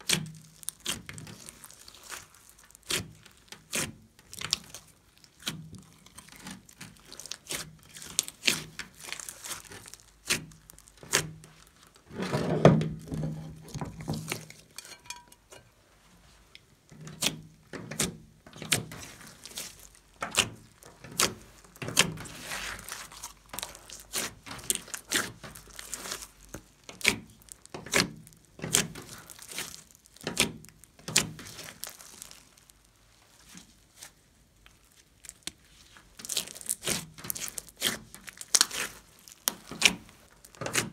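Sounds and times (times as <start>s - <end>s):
slime popping and crackling: 0.0s - 12.1s, 16.9s - 40.9s.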